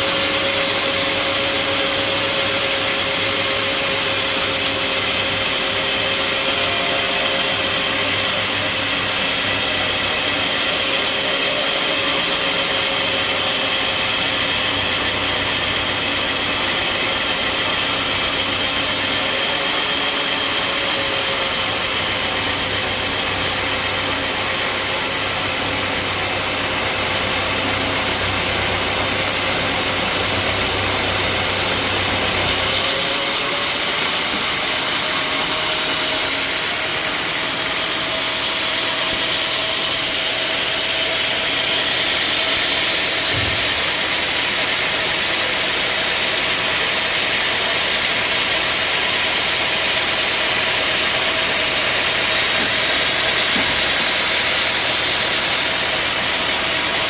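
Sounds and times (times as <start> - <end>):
sawmill machinery whine: 0.0 - 57.0.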